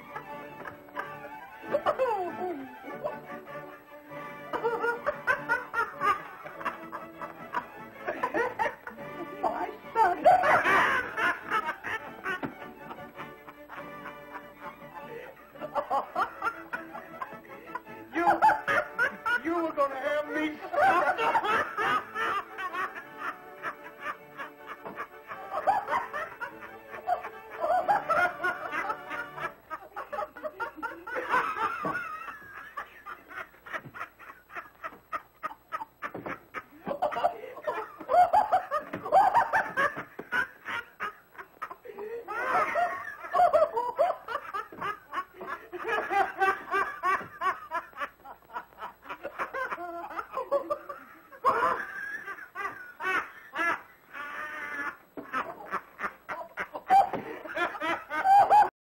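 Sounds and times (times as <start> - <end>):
men laughing: 0.0 - 58.7.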